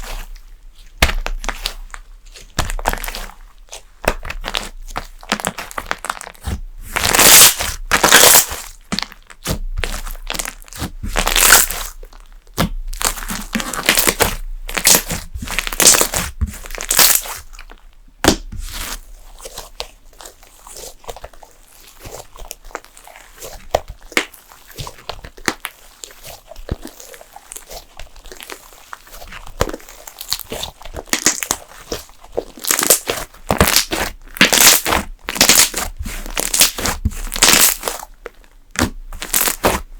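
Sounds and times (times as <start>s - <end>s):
slime squeezed by hand crackling: 0.9s - 39.9s.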